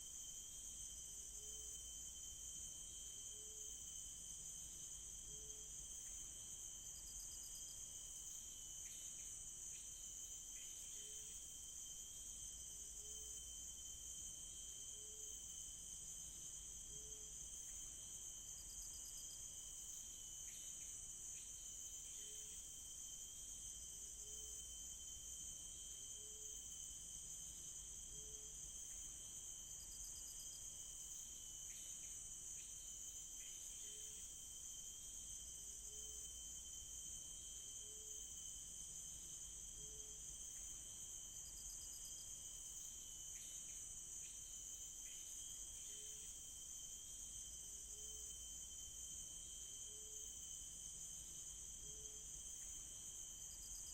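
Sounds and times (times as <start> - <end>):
crickets droning: 0.0 - 53.9.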